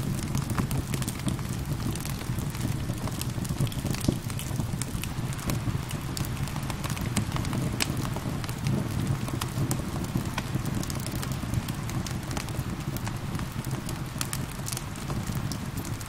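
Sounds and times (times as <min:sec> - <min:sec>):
gentle rain: 0:00.0 - 0:16.0
wood fire crackling: 0:00.0 - 0:16.0.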